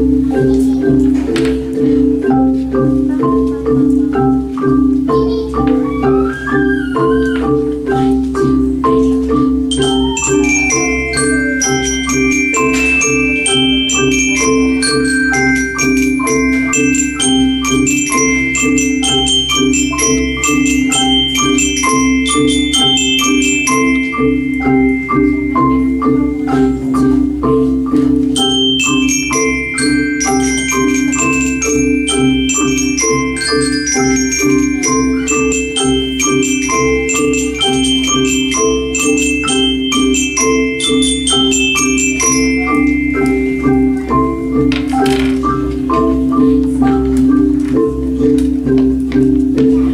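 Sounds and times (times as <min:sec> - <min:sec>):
xylophones played with mallets: 0:00.0 - 0:49.9.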